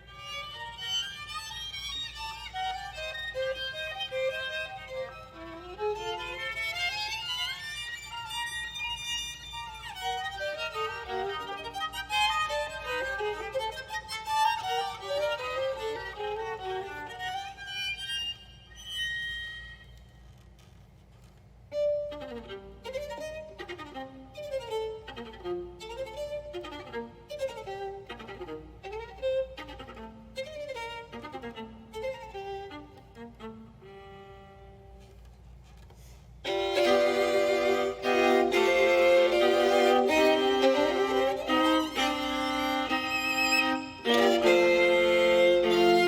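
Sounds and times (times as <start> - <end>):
violin playing classical music: 0.0 - 19.8, 21.7 - 35.4, 36.4 - 46.0.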